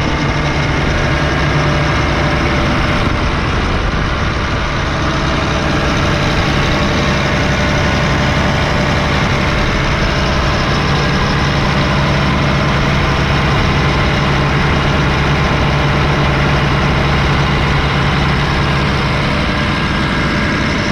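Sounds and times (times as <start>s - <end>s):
excavator diesel engine running: 0.0s - 20.9s.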